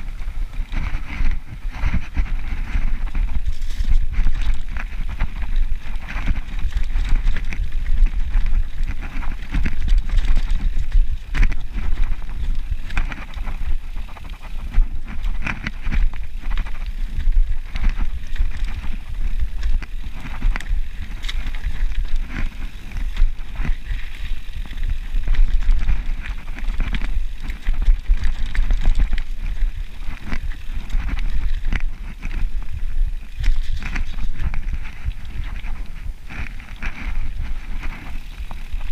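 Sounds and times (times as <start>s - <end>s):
bike rattles and clicks: 0.0s - 38.9s
bike tyres rolling on dirt: 0.0s - 38.9s
constant low rumble: 0.0s - 38.9s.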